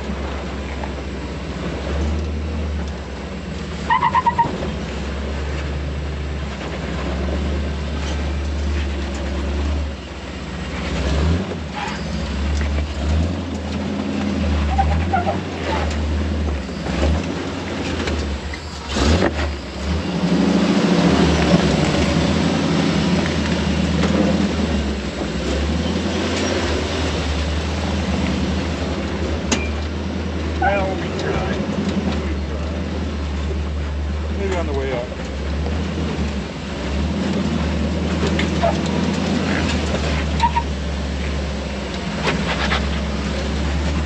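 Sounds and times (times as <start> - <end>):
truck engine running at low revs: 0.0 - 44.0.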